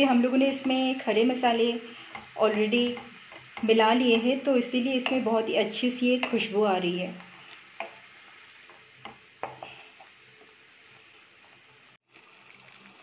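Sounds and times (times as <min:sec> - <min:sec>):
onion paste sizzling in oil: 0:00.0 - 0:13.0.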